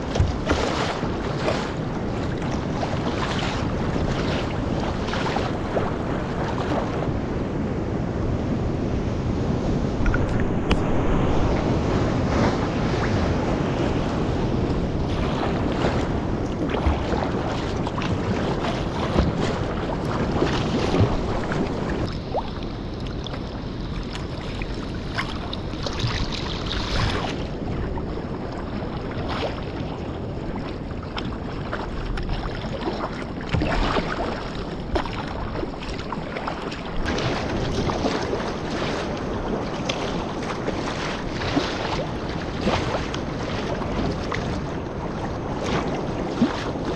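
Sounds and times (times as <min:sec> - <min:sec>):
waves slapping against kayak hull: 0:00.0 - 0:07.3, 0:09.7 - 0:46.9
wind buffeting microphone: 0:00.0 - 0:46.9.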